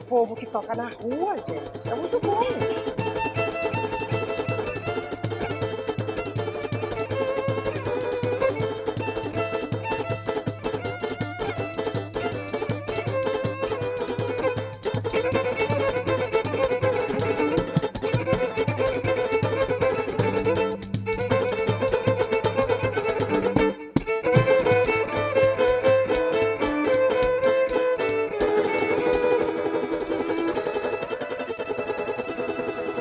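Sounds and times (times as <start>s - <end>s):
instrumental music: 0.0s - 33.0s.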